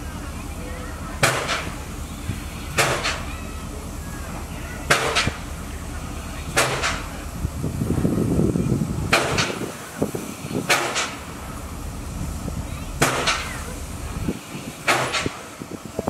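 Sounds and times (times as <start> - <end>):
train wheels clacking over rail joints: 0.0 - 7.3, 9.0 - 11.6, 12.3 - 16.0
train running rumble: 0.0 - 16.0.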